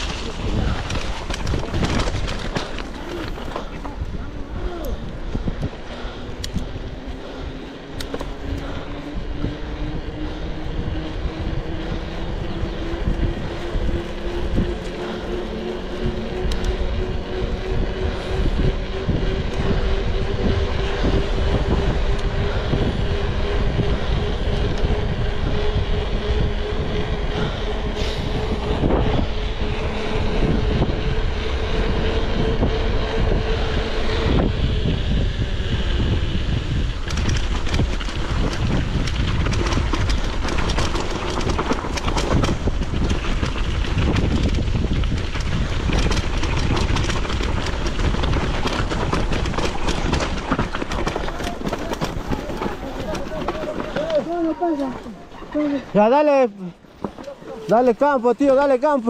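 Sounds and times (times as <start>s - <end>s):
heavy low rumble: 0.0s - 55.8s
vehicle engine pulling under load: 5.7s - 55.7s.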